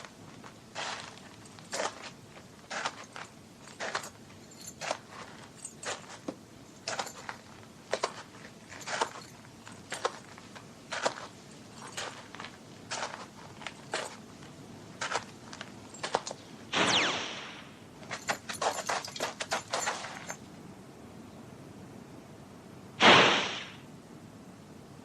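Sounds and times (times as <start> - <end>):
slow footsteps: 0.0 - 20.4.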